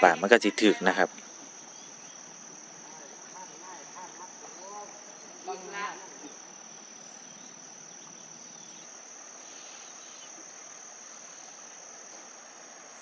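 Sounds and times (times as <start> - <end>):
faint high insect note: 0.0 - 13.0
insect chorus drone: 0.0 - 13.0.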